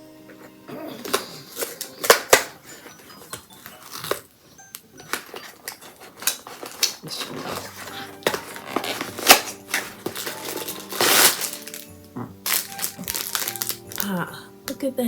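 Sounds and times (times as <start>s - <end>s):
packaging crackling: 1.0s - 14.4s.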